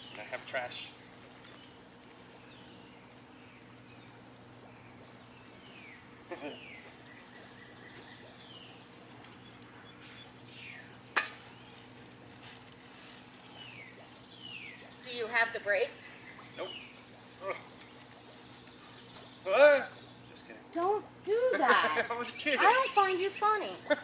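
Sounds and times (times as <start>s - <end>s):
birds chirping: 0.0s - 21.2s, 21.9s - 23.8s.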